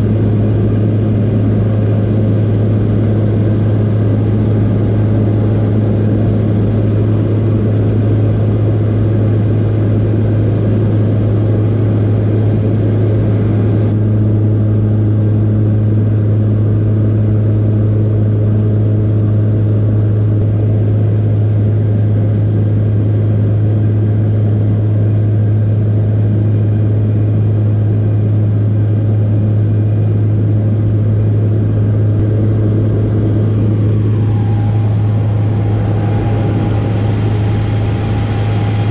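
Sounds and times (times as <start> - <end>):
propeller plane engine drone: 0.0 - 38.9.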